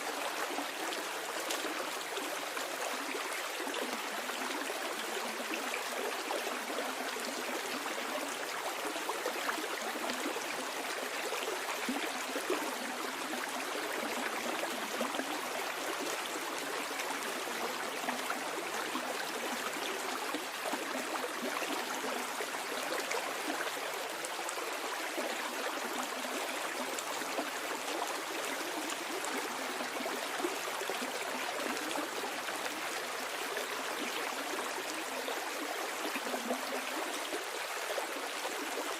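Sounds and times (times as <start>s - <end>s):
stream babbling over stones: 0.0s - 38.9s.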